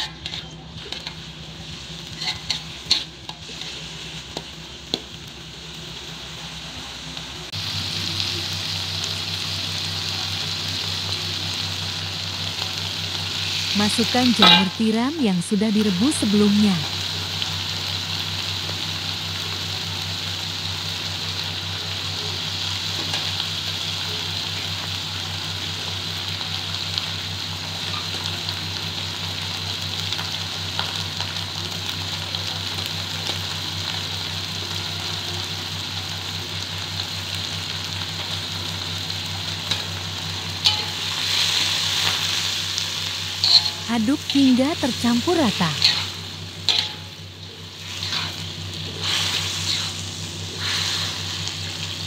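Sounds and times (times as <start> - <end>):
vegetables sizzling in oil: 0.0 - 52.0.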